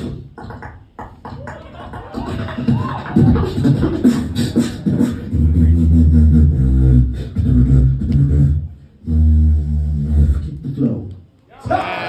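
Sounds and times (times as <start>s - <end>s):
beatboxing percussive hits: 0.0s - 10.8s
deep beatboxed bass notes: 0.0s - 11.3s.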